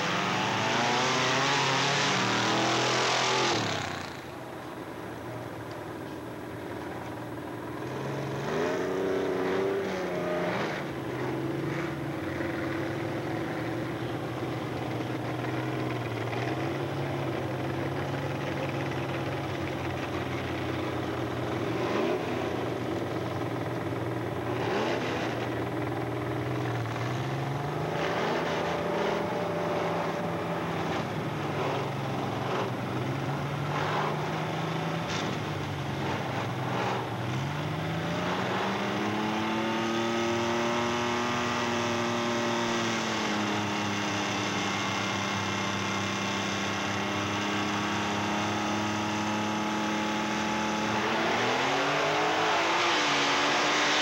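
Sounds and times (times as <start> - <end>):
truck engines revving: 0.0 - 4.6, 6.8 - 54.0.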